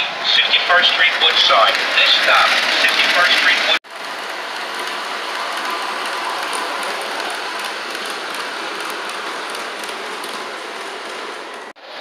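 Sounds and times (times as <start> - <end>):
model train whirring and rattling: 0.3 - 11.7.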